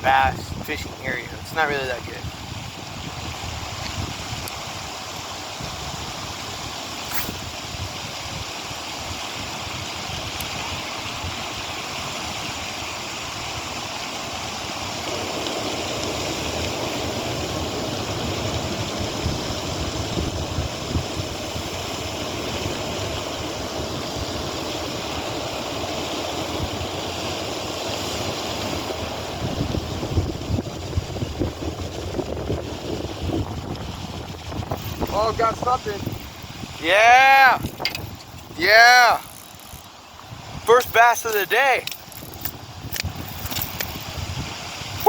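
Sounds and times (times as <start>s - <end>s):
strong wind buffeting microphone: 0.0s - 8.6s, 16.2s - 45.0s.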